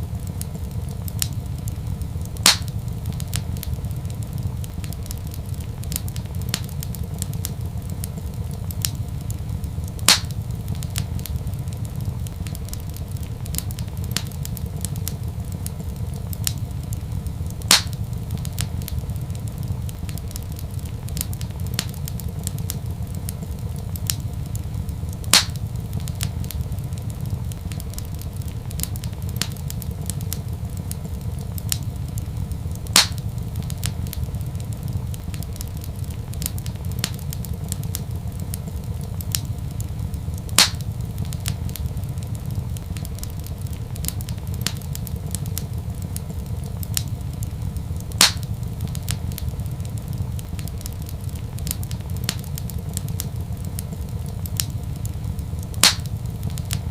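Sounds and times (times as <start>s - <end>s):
loud fire pops: 0.0s - 56.9s
wood fire crackling: 0.0s - 56.9s.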